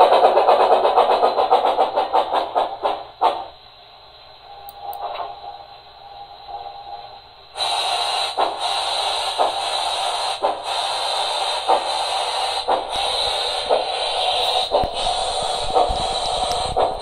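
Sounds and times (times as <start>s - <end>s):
model steam hiss through speaker: 0.0s - 17.0s
steam locomotive chuffs: 0.0s - 17.0s.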